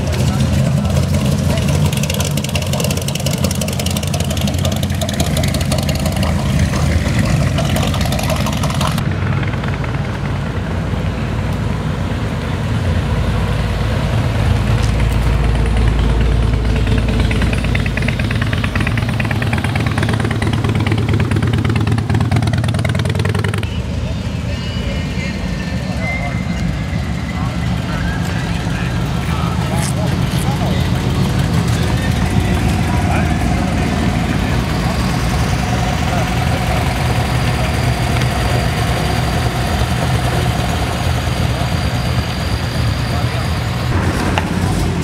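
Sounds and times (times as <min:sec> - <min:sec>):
car engines droning past: 0:00.0 - 0:45.0.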